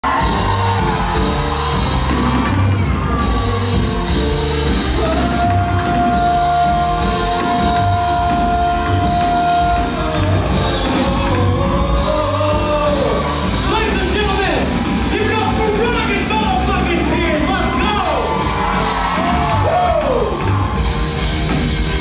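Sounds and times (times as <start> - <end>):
drum kit: 0.0 - 22.0
live rock band music: 0.0 - 22.0.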